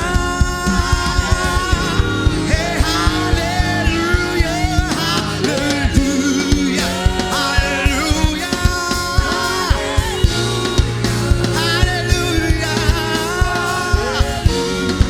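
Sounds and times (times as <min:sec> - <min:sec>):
band with steady drum beat: 0:00.0 - 0:15.0
person singing: 0:00.0 - 0:15.0.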